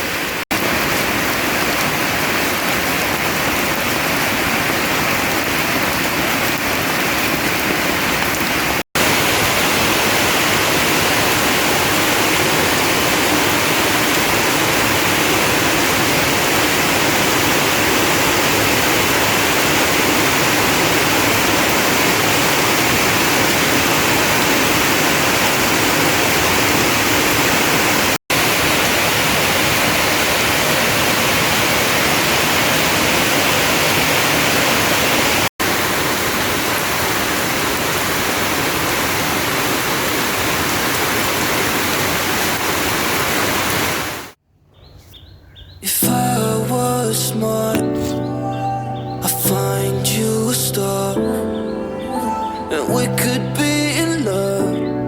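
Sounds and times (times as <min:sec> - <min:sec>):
heavy rain pouring: 0:00.0 - 0:44.4, 0:45.9 - 0:54.9.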